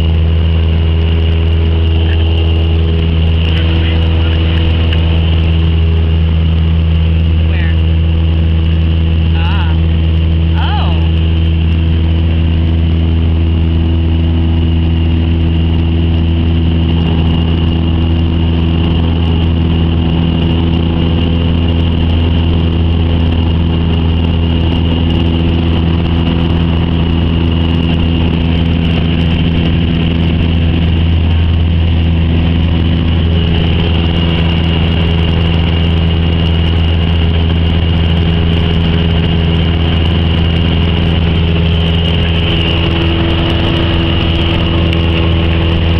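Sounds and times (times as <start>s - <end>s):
aircraft engine and propeller hum: 0.0s - 45.9s.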